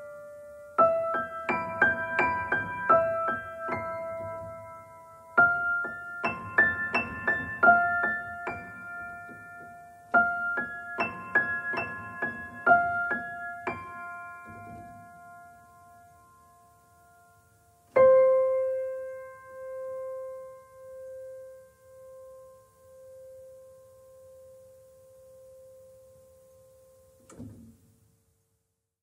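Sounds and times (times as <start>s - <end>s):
piano music: 0.0s - 27.2s.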